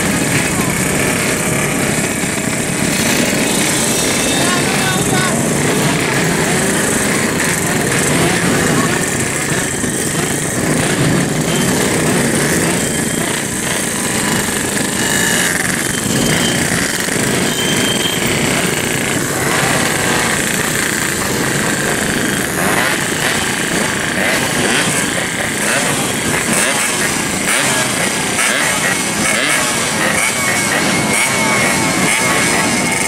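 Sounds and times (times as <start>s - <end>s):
motorcycles revving: 0.0s - 33.0s.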